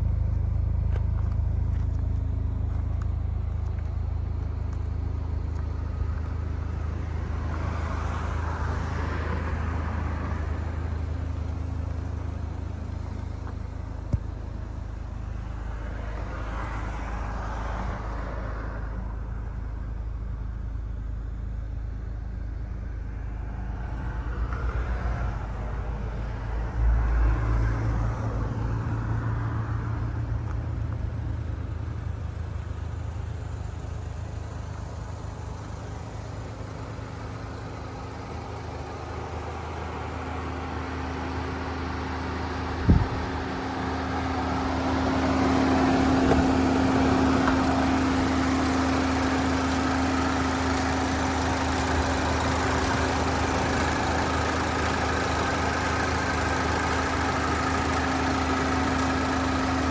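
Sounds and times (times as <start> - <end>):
car engine idling: 0.0 - 24.6, 29.6 - 59.9.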